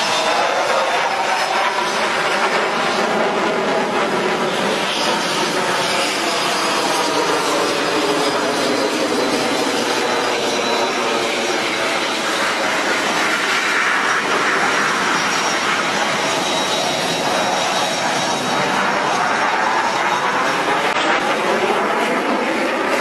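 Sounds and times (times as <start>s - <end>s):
jet engine noise in flight: 0.0s - 23.0s.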